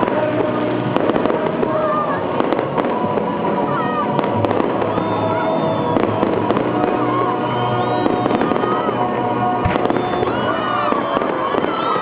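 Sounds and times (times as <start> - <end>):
fireworks crackling: 0.0 - 12.0
heavy firework bang: 0.0 - 12.0.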